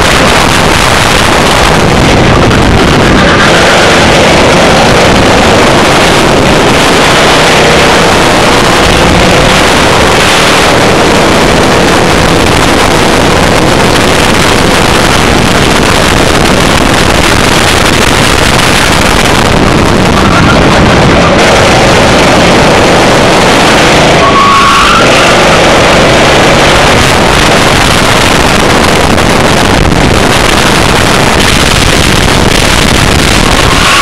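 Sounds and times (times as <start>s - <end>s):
kart engine running at speed: 0.0s - 34.0s
wind noise on microphone: 0.0s - 34.0s.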